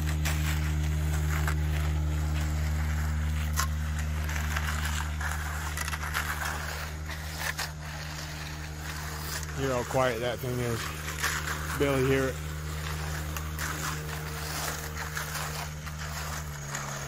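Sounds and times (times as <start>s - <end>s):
concrete rakes scraping: 0.0s - 17.0s
power screed humming: 0.0s - 17.0s.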